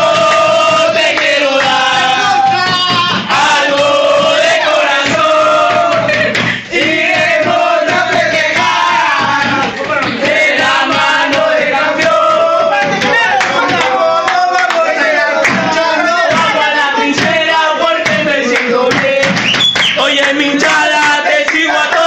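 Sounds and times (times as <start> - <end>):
men chanting together: 0.0 - 19.4, 20.0 - 22.0.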